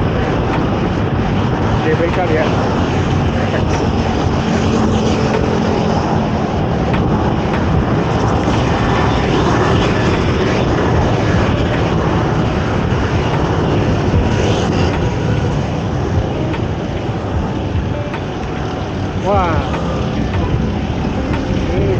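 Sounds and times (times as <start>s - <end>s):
passing motor traffic: 0.0s - 21.9s
wind on microphone: 0.0s - 21.9s.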